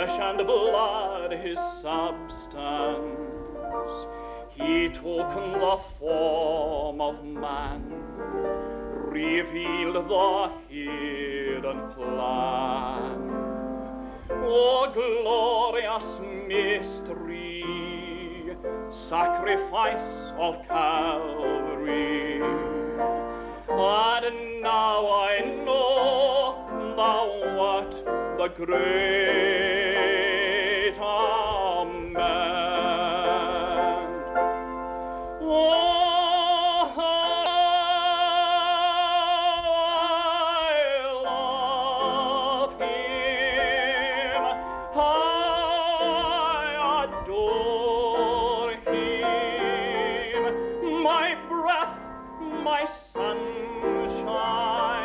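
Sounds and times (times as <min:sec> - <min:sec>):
person singing a gospel hymn: 0:00.0 - 0:55.0.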